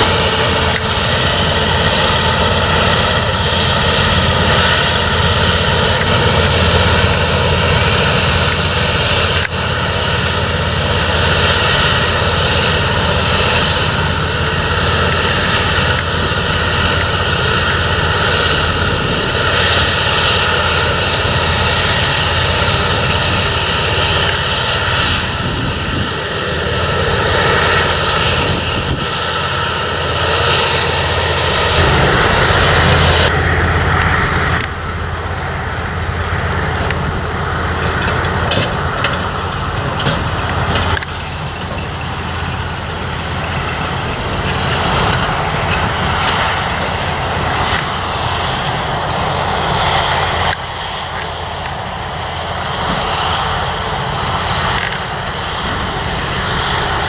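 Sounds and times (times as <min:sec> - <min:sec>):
combine harvester engine droning: 0:00.0 - 0:57.0
lorry driving across stubble: 0:00.0 - 0:57.0.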